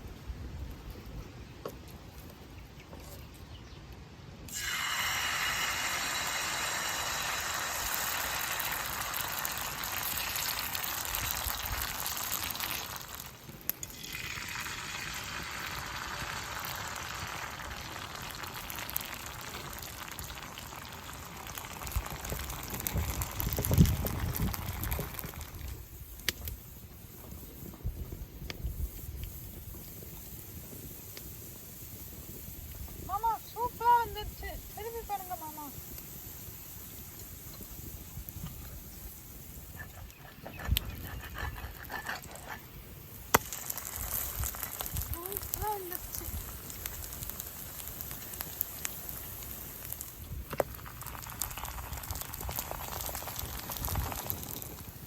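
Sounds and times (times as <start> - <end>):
food sizzling in hot oil: 4.5 - 40.1, 41.0 - 55.0.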